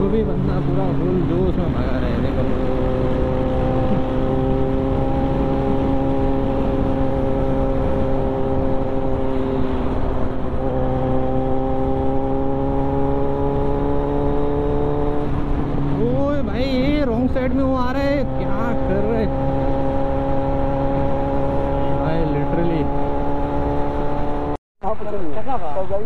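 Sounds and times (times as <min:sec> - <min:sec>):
motorcycle engine cruising: 0:00.0 - 0:24.6
wind and road noise: 0:00.0 - 0:26.0.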